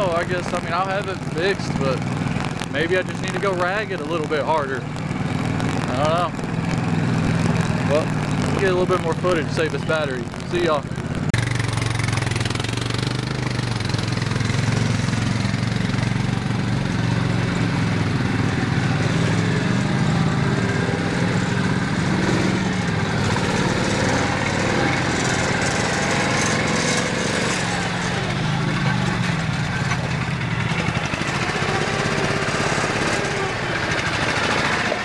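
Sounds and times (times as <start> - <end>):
garden tractor engine running: 0.0 - 35.0.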